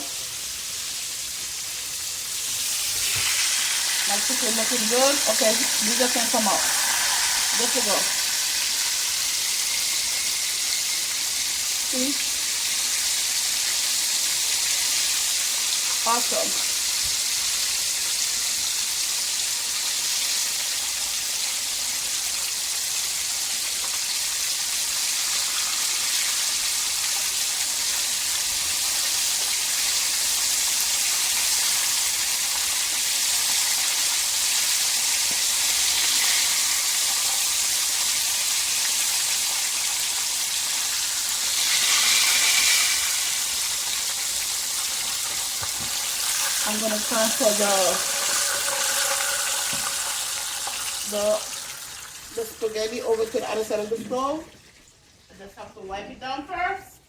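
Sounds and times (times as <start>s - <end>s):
food deep-frying in oil: 0.0s - 55.4s.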